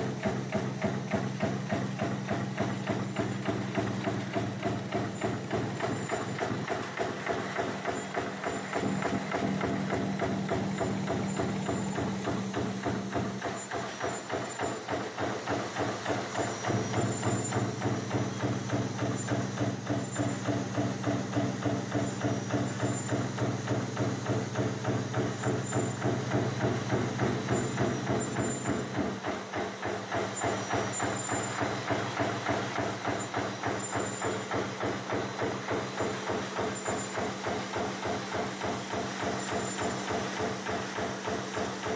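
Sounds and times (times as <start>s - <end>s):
machinery fast clatter: 0.0s - 41.9s
steady motor hum: 0.0s - 41.9s.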